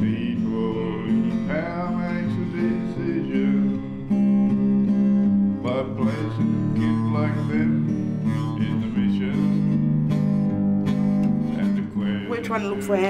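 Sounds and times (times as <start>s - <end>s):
strummed acoustic guitar song: 0.0s - 13.0s.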